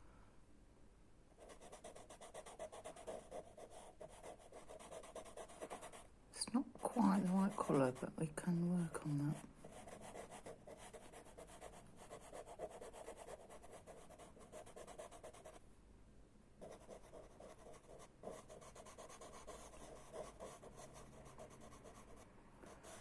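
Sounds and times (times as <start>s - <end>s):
pastel stick scratching on paper: 1.4s - 6.0s, 6.8s - 8.1s, 9.3s - 15.6s, 16.6s - 23.0s.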